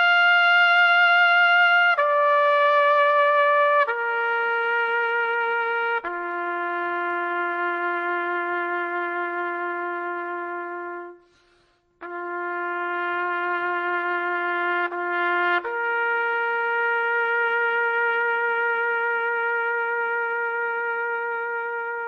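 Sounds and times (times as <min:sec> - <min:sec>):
solo trumpet melody: 0:00.0 - 0:22.0.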